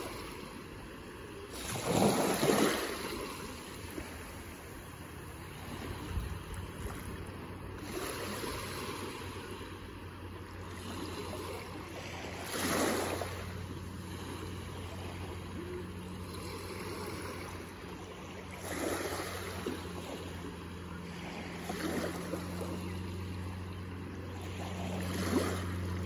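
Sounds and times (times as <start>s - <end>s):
small waves washing on beach: 0.0s - 26.0s.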